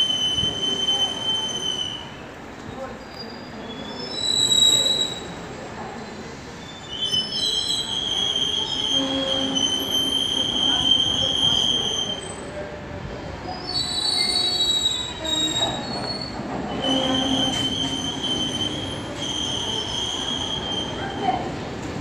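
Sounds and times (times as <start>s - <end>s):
train wheels squealing: 0.0s - 5.5s, 6.5s - 12.6s, 13.4s - 21.3s.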